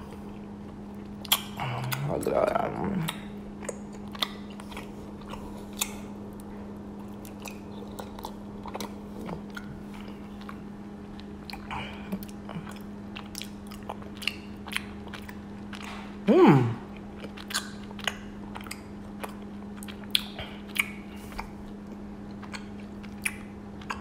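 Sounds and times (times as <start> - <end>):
wet sticky chewing: 0.0 - 16.2, 16.9 - 24.0
steady low hum: 0.0 - 24.0.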